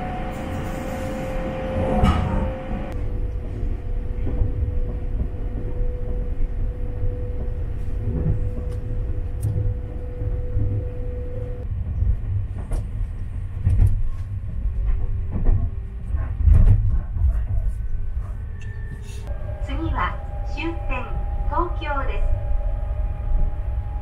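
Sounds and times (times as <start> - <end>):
train rumble from inside carriage: 0.0 - 24.0.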